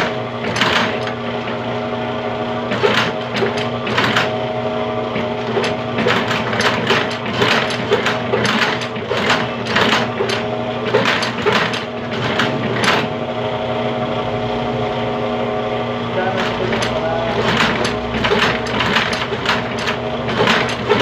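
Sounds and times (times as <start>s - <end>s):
sewing machine motor hum: 0.0s - 21.0s.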